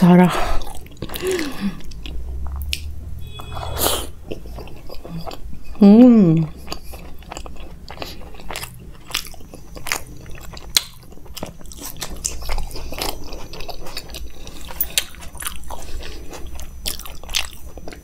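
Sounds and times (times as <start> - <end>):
chewing flatbread: 0.4 - 18.0.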